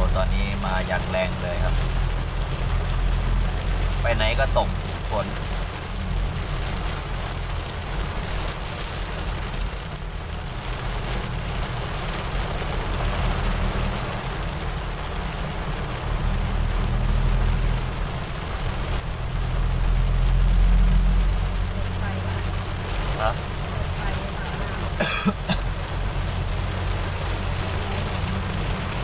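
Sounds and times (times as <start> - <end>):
car road and engine rumble: 0.0 - 29.0
heavy rain on car roof: 0.0 - 29.0.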